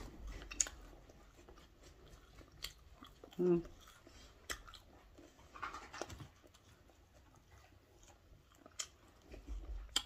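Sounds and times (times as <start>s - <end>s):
person chewing: 0.0s - 10.0s.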